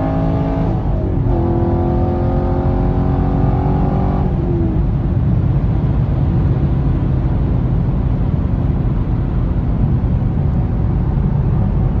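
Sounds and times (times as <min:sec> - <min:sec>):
car engine deep drone: 0:00.0 - 0:12.0.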